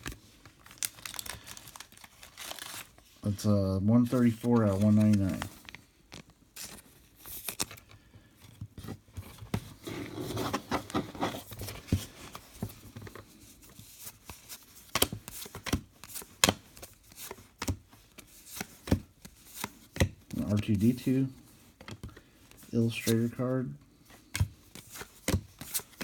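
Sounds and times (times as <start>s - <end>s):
cards rustling: 0.0s - 26.0s.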